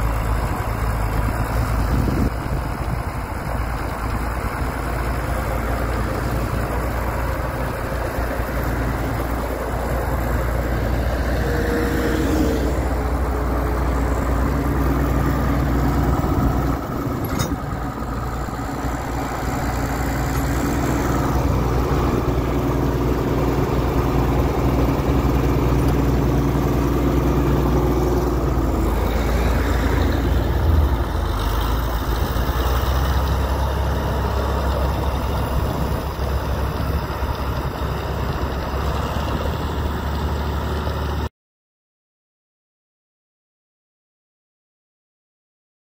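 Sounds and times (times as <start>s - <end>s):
tractor diesel engine running: 0.0s - 41.3s.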